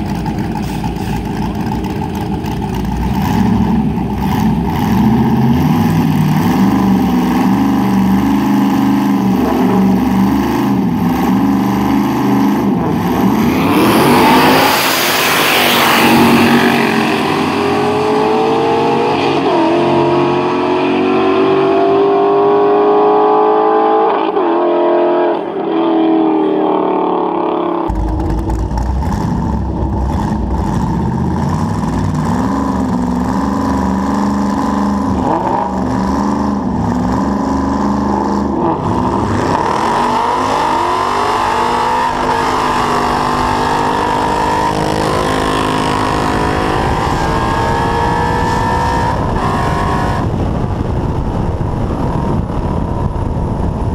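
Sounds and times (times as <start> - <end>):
car engine revving and accelerating: 0.0 - 51.0.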